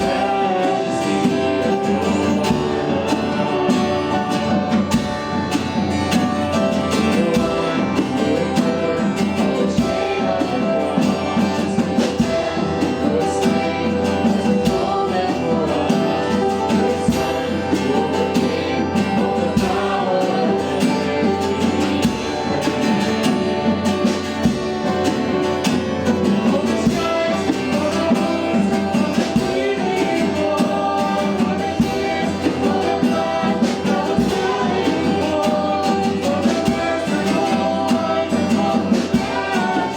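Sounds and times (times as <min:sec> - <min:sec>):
people singing: 0:00.0 - 0:39.9
worship band with guitar: 0:00.0 - 0:39.9.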